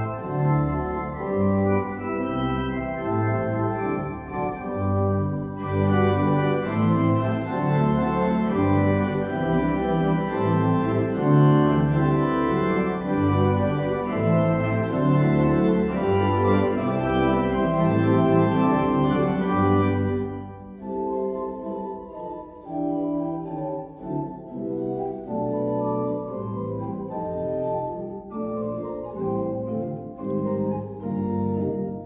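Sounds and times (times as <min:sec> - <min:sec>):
organ music: 0:00.0 - 0:32.0.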